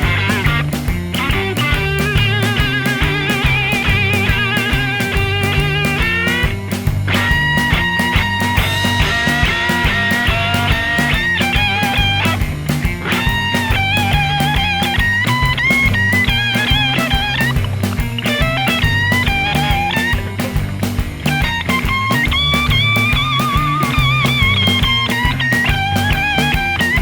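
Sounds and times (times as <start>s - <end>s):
bass and drum backing: 0.0s - 27.0s
electric guitar solo: 0.0s - 27.0s.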